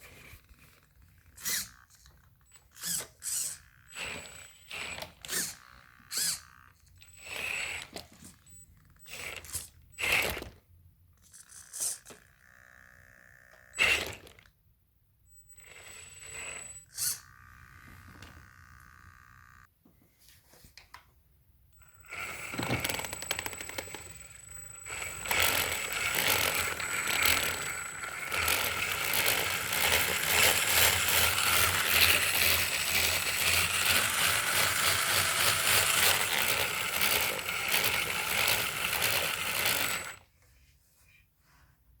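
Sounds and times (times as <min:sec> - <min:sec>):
short clicks and whirrs: 0:00.0 - 0:10.6, 0:11.2 - 0:14.6, 0:15.3 - 0:19.7, 0:21.7 - 0:40.4
toy car drivetrain grinding: 0:00.1 - 0:10.6, 0:11.2 - 0:14.5, 0:15.5 - 0:19.7, 0:21.8 - 0:40.2.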